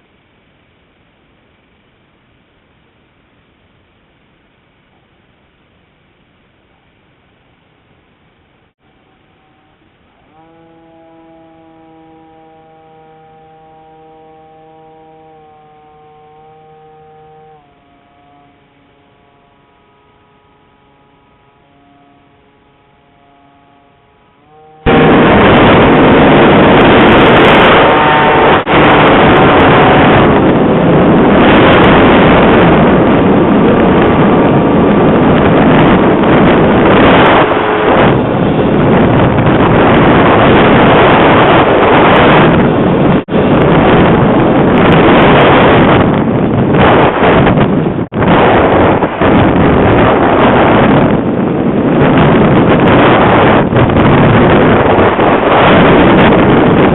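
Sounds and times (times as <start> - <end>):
strong wind on microphone: 8.8 - 56.9.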